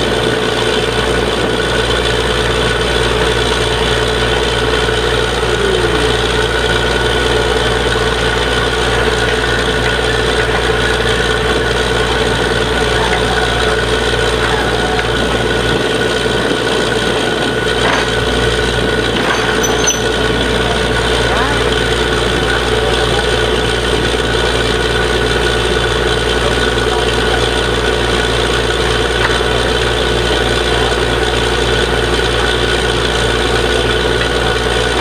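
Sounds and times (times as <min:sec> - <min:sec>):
deep hum: 0:00.0 - 0:35.0
drilling rig machine drone: 0:00.0 - 0:35.0.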